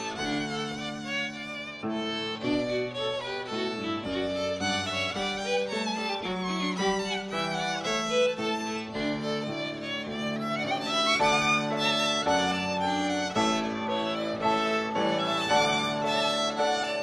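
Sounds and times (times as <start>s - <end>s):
violins playing a melody: 0.0s - 17.0s.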